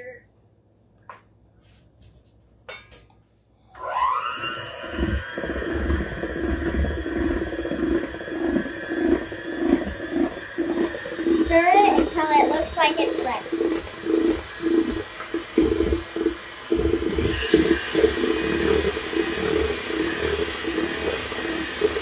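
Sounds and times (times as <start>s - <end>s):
electric hand mixer whirring: 3.7s - 22.0s.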